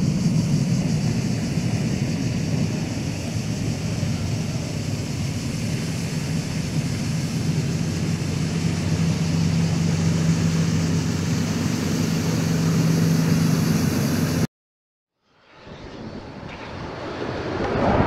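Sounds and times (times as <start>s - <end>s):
jet engines of climbing airliner: 0.0s - 14.5s, 15.3s - 18.0s.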